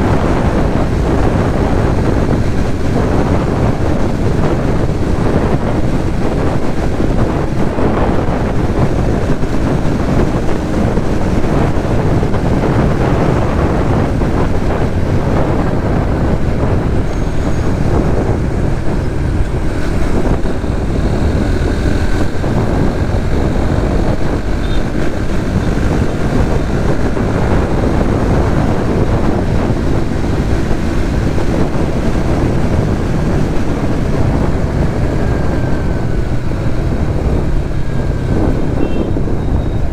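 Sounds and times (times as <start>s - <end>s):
motorcycle engine: 0.0s - 39.9s
surrounding traffic: 0.0s - 39.9s
wind rush on microphone: 0.0s - 39.9s.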